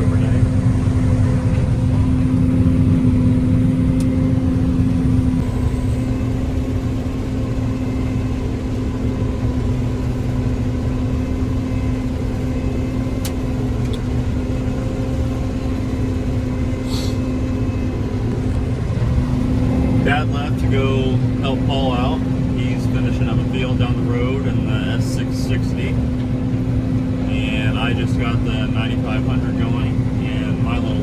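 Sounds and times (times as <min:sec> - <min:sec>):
combine engine and machinery drone: 0:00.0 - 0:31.0.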